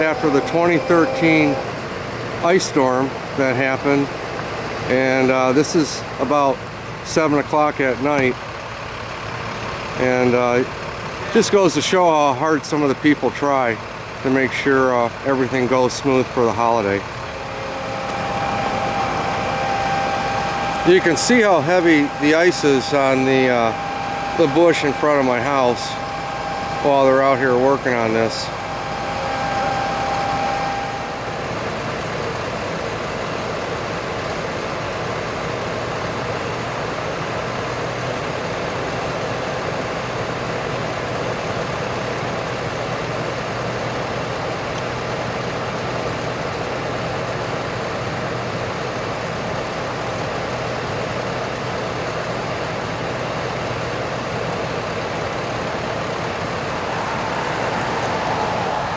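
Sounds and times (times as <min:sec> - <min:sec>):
truck engine rumbling: 0:00.0 - 0:58.9.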